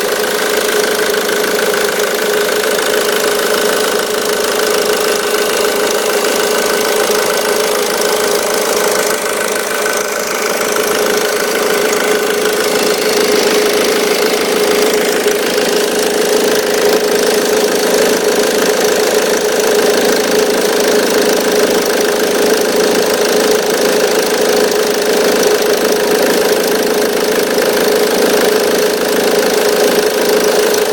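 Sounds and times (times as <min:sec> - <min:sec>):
belt tensioner squeak and rattle: 0:00.0 - 0:30.9
diesel engine running: 0:00.0 - 0:30.9.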